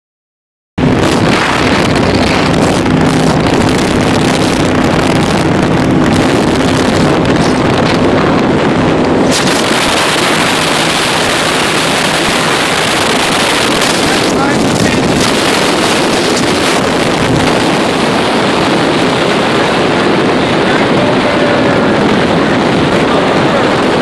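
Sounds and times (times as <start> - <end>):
powerboat engine droning: 0.8 - 24.0
water rushing: 0.8 - 24.0
wind on microphone: 0.8 - 24.0.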